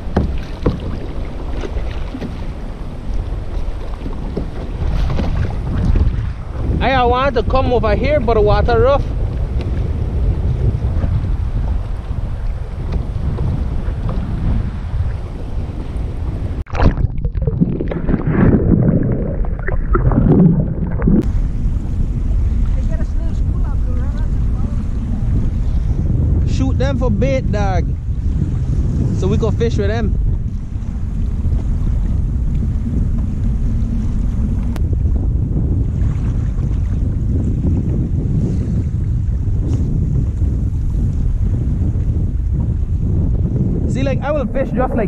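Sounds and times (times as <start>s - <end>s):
water splashing around kayak: 0.0s - 45.0s
waves: 0.0s - 45.0s
wind buffeting microphone: 0.0s - 45.0s.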